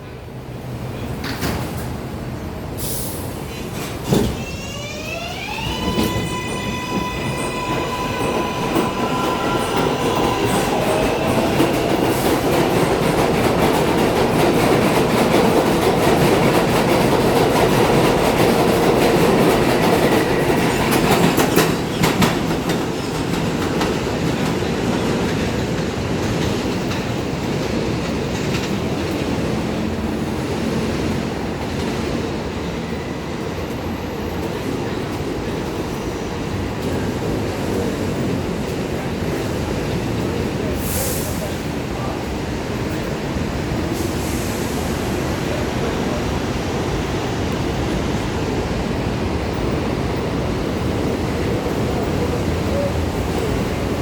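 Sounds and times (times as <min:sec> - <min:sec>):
subway train rumbling on rails: 0:00.0 - 0:54.0.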